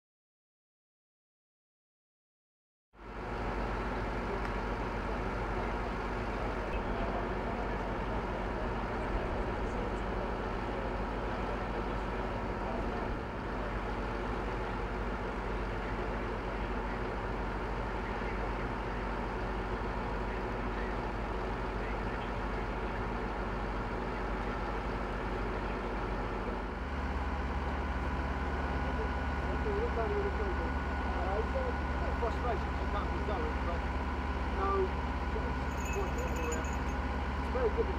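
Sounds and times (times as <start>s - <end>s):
fire engine idling: 3.0s - 37.9s.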